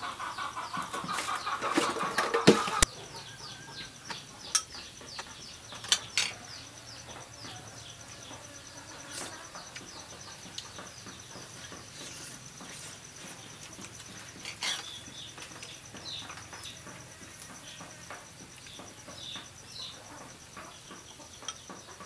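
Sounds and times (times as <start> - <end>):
insect trilling and chirping: 0.0 - 22.0.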